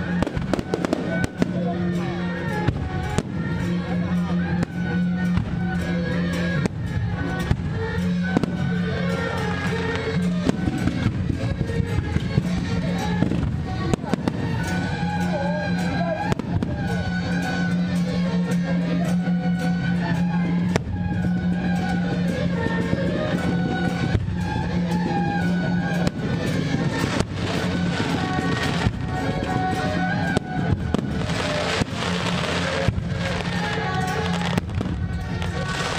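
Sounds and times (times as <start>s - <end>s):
fireworks crackling and banging: 0.0s - 18.4s, 19.4s - 35.9s
loud music with drone and melody: 0.0s - 35.9s.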